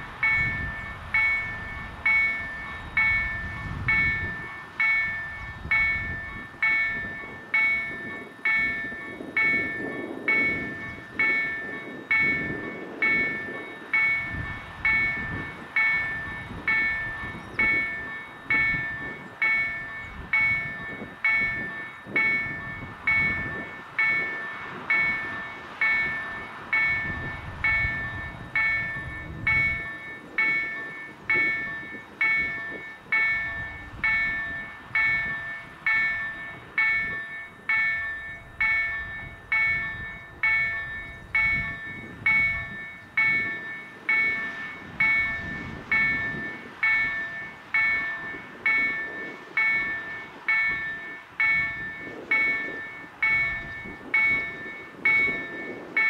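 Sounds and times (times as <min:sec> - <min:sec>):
level crossing bell ringing: 0:00.0 - 0:56.0.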